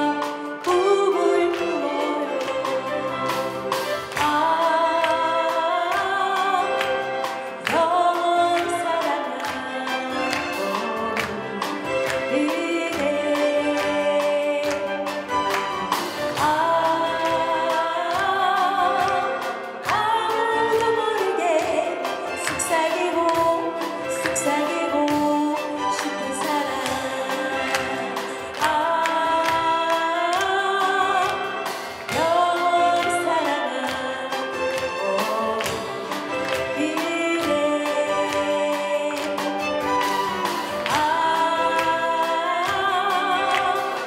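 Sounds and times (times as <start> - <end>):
string ensemble: 0.0 - 44.0
woman singing: 0.0 - 44.0.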